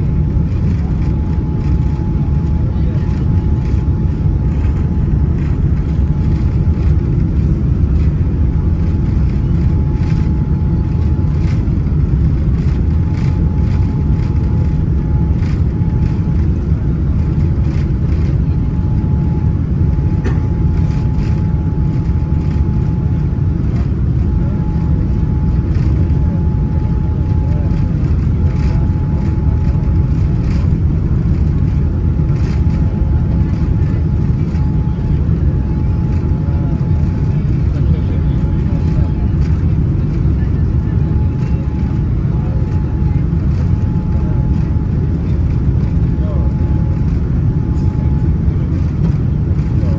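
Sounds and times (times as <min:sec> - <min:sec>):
airliner cabin rumble: 0:00.0 - 0:49.9
faint steady whine: 0:00.0 - 0:49.9.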